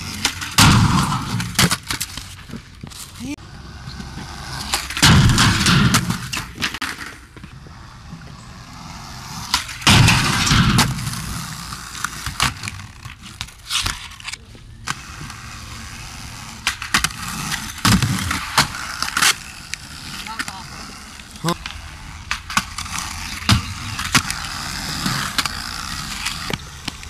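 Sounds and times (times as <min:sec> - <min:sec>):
skateboard scraping along rail: 0:00.0 - 0:27.0
skateboard wheels rolling on concrete: 0:00.0 - 0:27.0
skateboard deck clacking: 0:04.0 - 0:27.0.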